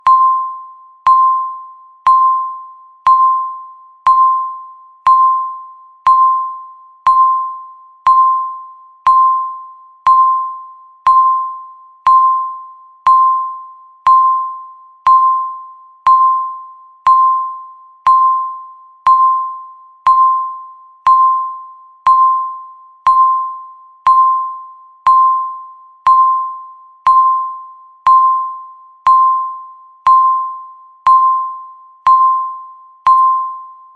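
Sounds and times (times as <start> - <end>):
timer beeping: 0.0 - 33.9.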